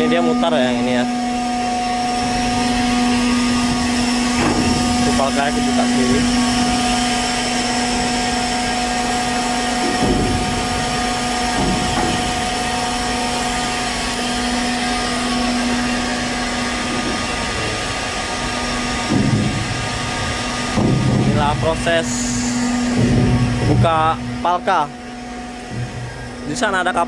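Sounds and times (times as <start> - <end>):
hatch machinery humming: 0.0 - 27.0
dull bumps: 2.0 - 24.4.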